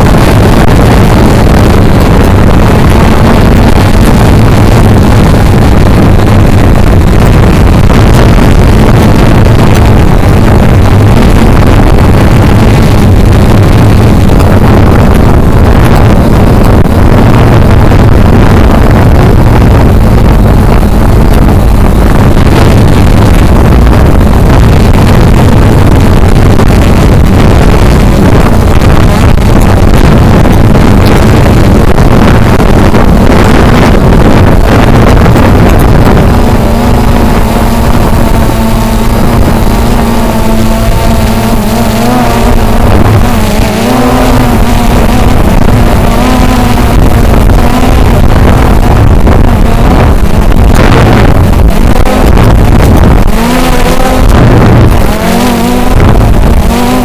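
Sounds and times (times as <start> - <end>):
drone propellers humming: 0.0 - 57.0
wind noise on microphone: 0.0 - 57.0.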